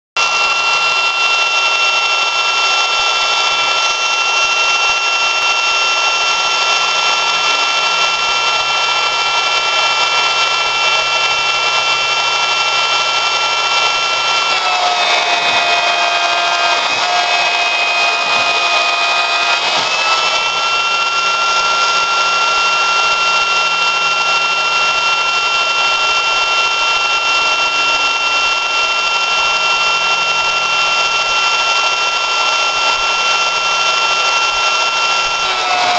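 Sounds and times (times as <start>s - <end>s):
milling spindle whine: 0.2s - 35.9s.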